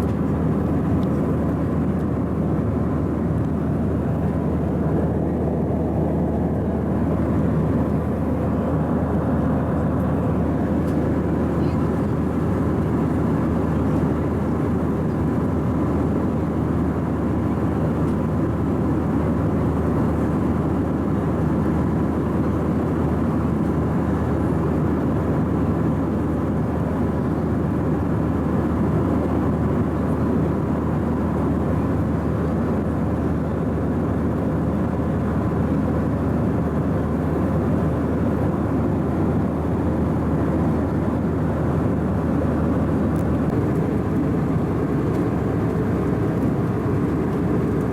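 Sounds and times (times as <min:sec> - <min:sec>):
airliner cabin drone: 0:00.0 - 0:47.9.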